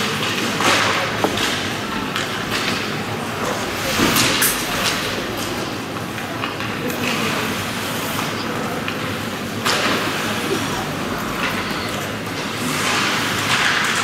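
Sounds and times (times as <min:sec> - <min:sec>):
hockey sticks and puck clacking: 0:00.0 - 0:10.6, 0:11.3 - 0:14.0
steady background hum: 0:00.0 - 0:14.0.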